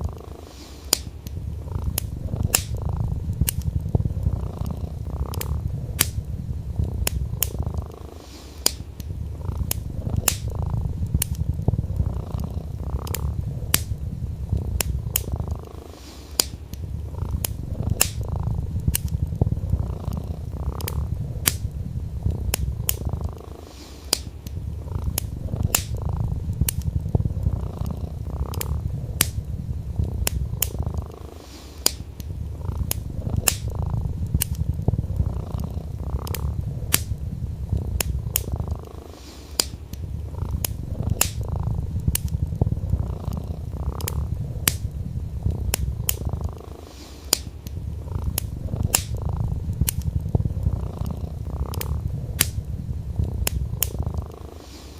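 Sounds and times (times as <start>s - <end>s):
cat purring: 0.0s - 54.9s
wood fire crackling: 0.0s - 54.9s.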